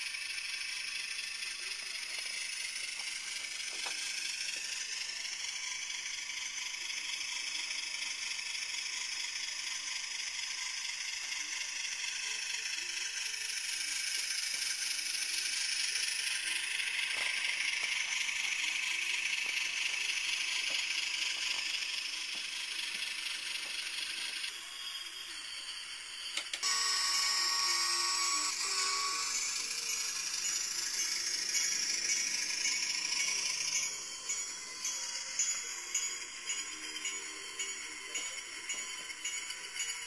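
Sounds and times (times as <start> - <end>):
model train mechanical rattle: 0.0 - 40.0.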